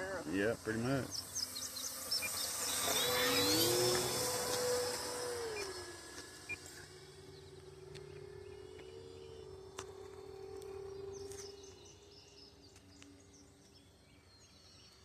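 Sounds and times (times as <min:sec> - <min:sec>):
model plane motor whine: 0:00.0 - 0:15.0.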